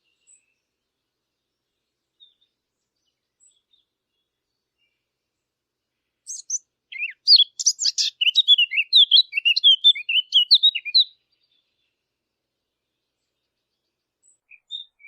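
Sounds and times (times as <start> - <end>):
warbler singing: 0.0 - 5.1, 6.0 - 15.0.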